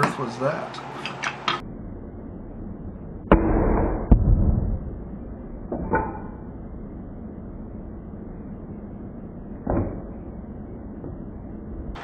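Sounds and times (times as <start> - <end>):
dull rumble: 1.6 - 12.0.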